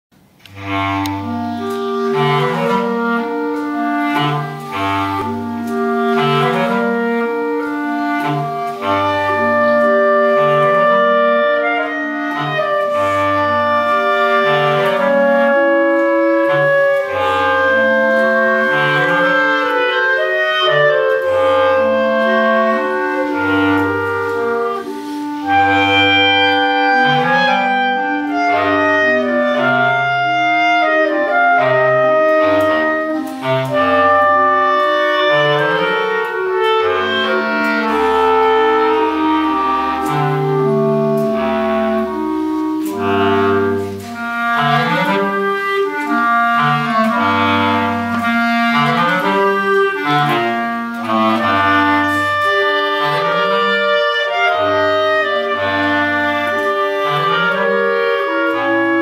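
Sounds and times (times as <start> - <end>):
bass clarinet low notes: 0.2 - 59.0
clarinets playing in harmony: 0.4 - 59.0.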